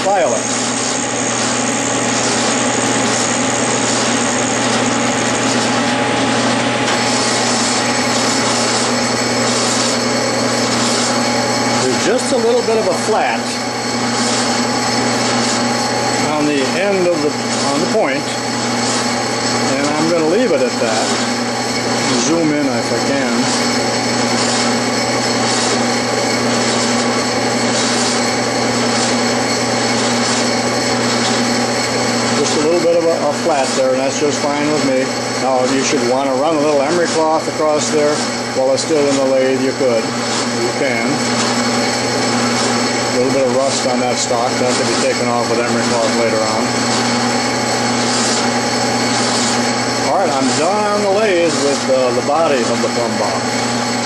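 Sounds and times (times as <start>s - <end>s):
lathe tool cutting steel hiss: 0.0s - 54.0s
metal lathe motor hum: 0.0s - 54.0s.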